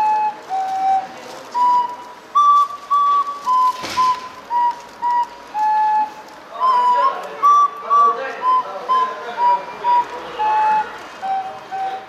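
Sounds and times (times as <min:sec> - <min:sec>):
slow recorder tune: 0:00.0 - 0:12.0.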